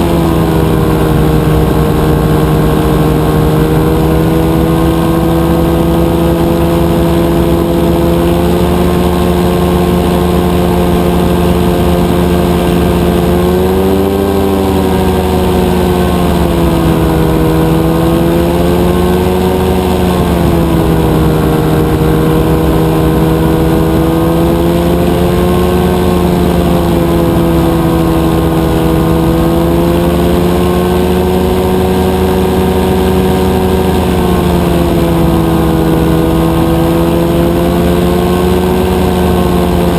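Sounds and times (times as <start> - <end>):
two-stroke aircraft engine running: 0.0 - 39.9.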